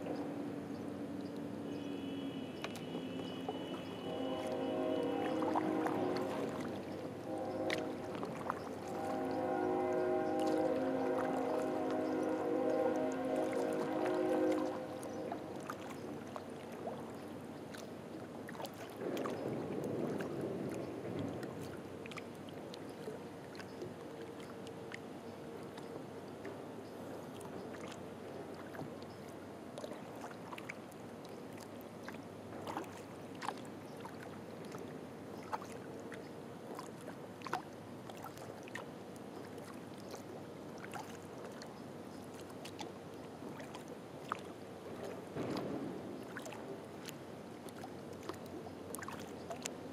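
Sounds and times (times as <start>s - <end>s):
paddle splashes and drips: 0.0s - 49.9s
water swashing: 0.0s - 49.9s.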